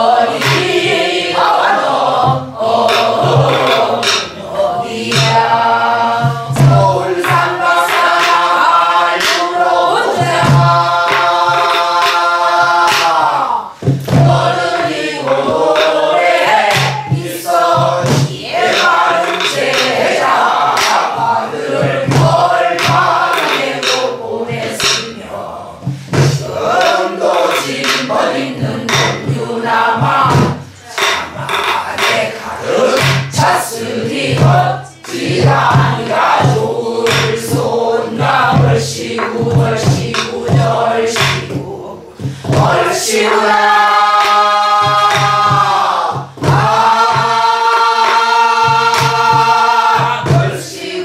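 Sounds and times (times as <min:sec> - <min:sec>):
barrel drum beating: 0:00.0 - 0:51.0
people singing folk song: 0:00.0 - 0:51.0.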